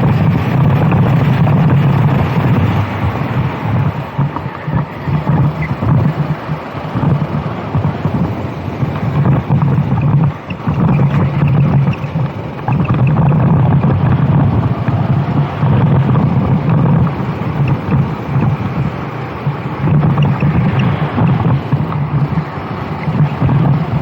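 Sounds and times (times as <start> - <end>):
go-kart engine running hard: 0.0 - 24.0
wind noise on microphone: 0.0 - 24.0.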